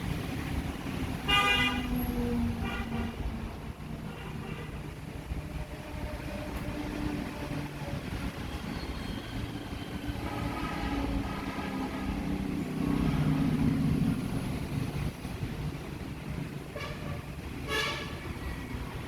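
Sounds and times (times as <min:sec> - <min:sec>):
vehicle engines passing: 0:00.0 - 0:19.0.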